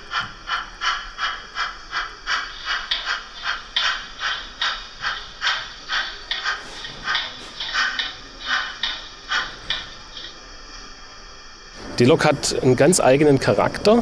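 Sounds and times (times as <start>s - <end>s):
model train steam chuffs: 0.0s - 14.0s.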